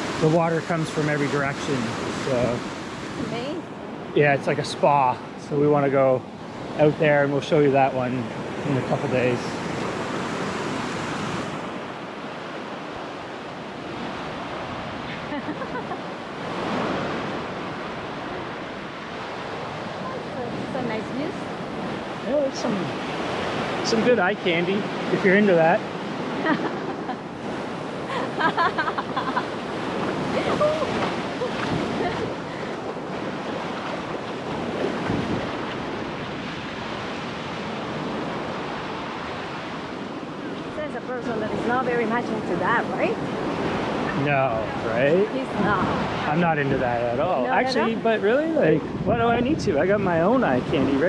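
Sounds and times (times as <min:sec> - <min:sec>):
ocean surf washing onto beach: 0:00.0 - 0:51.0
wind gusting across microphone: 0:00.0 - 0:51.0.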